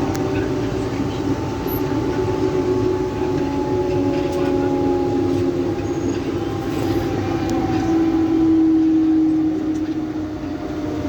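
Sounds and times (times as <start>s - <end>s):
train hum of held tones: 0.0s - 11.0s
train wheels rumbling on track: 0.0s - 11.0s.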